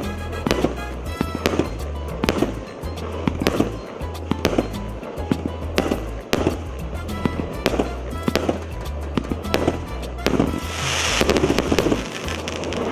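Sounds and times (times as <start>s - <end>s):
background music bass line: 0.0s - 12.9s
firework bangs: 0.0s - 12.9s
firework crackle: 0.0s - 12.9s.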